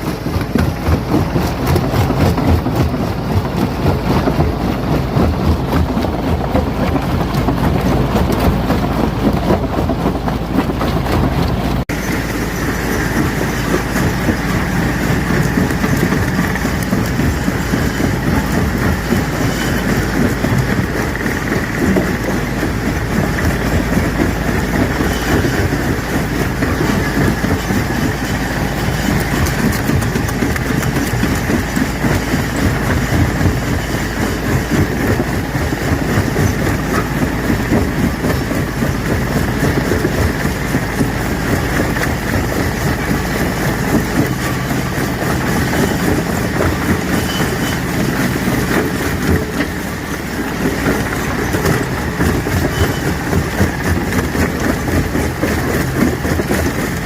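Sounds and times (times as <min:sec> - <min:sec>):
rock crusher crushing stone: 0:00.0 - 0:57.0.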